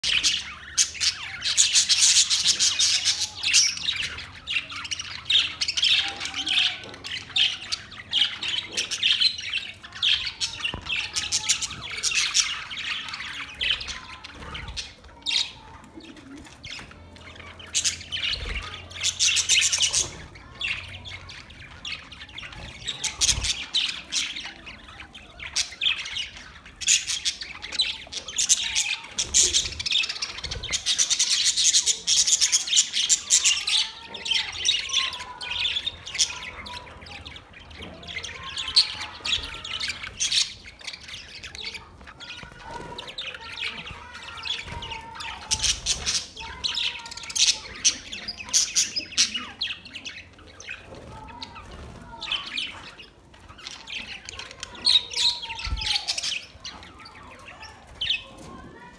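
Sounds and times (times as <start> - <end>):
budgerigars chattering and squawking: 0.0 - 58.9.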